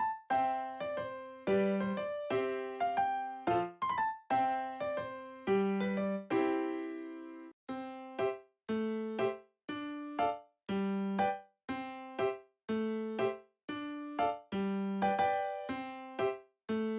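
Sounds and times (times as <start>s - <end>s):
light keyboard melody: 0.0s - 16.9s.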